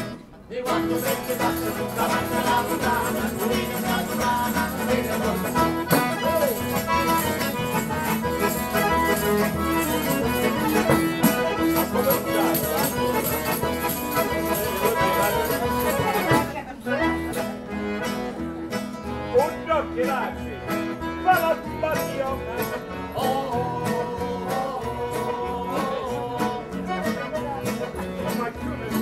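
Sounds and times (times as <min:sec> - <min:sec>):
instrumental music: 0:00.0 - 0:29.0.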